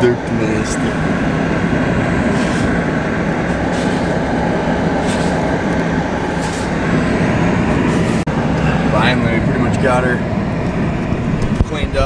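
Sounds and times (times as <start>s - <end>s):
car engine idling: 0.0s - 12.0s
heater fan blowing: 0.0s - 12.0s.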